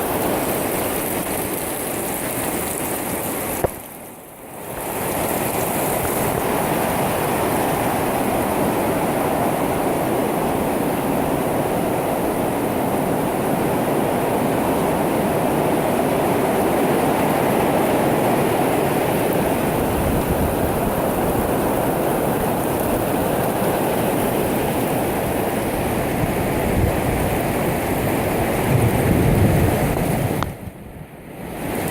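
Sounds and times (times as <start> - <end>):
rain pouring: 0.0 - 30.4.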